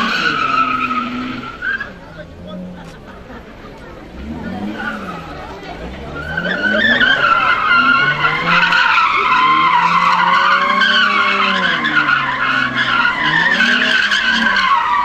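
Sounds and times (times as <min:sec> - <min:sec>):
car engine revving: 0:00.0 - 0:15.0
tyres squealing: 0:00.0 - 0:15.0.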